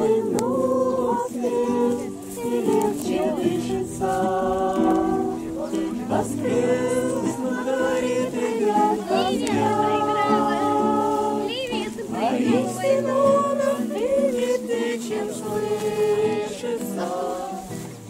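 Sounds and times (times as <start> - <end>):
acoustic guitar: 0.0 - 18.0
group of people singing: 0.0 - 18.0.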